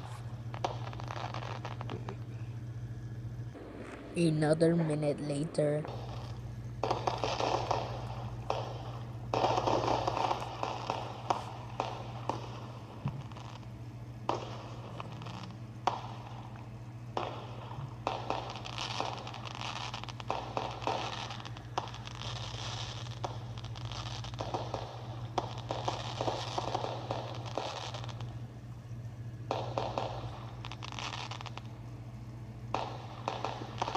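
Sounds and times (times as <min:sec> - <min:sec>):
firework crackling pops: 0:00.0 - 0:33.9
firework hissing: 0:00.0 - 0:33.9.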